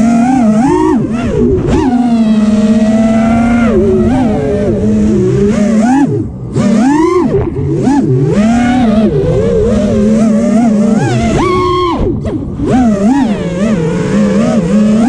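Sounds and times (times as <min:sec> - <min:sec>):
quadcopter propellers whining: 0:00.0 - 0:15.0.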